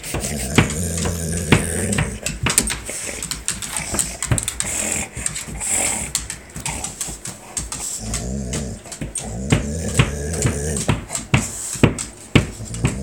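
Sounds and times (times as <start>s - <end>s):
dog chomping rubber toy: 0.0s - 13.0s.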